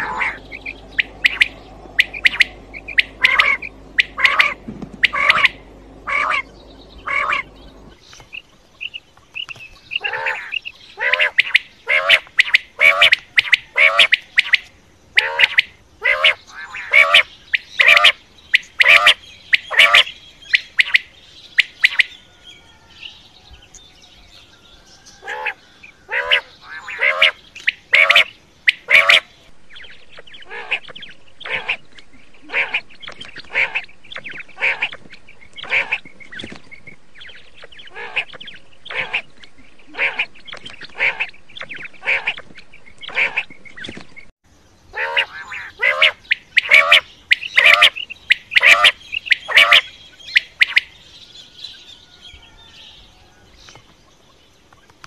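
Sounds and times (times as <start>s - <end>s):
quail calling: 0.0s - 9.0s, 9.8s - 22.9s, 25.2s - 44.0s, 44.9s - 51.0s.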